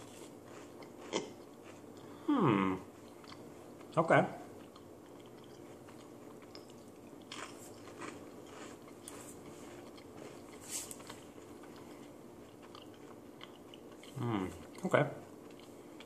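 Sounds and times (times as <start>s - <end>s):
crisp crunching while chewed: 0.0s - 2.2s, 2.9s - 16.0s.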